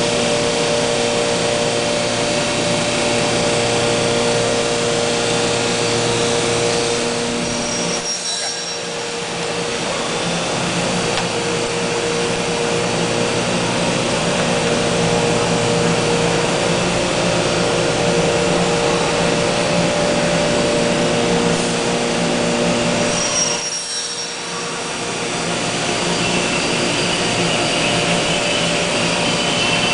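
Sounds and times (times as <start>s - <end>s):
wood machining centre whirring: 0.0s - 29.9s.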